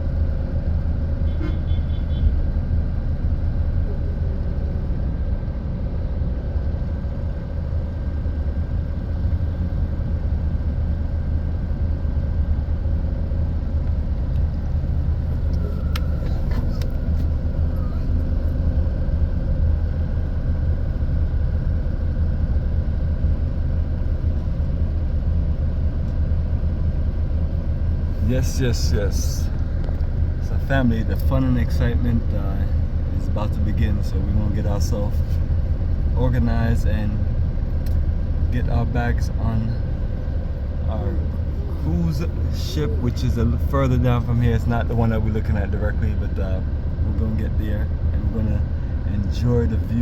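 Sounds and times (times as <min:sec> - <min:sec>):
faint constant hum: 0:00.0 - 0:50.0
low engine rumble: 0:00.0 - 0:50.0.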